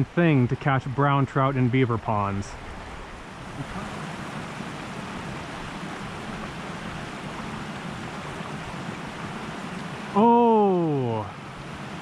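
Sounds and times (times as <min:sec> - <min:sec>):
creek running: 0:00.0 - 0:12.0
water spilling over a dam: 0:00.0 - 0:12.0.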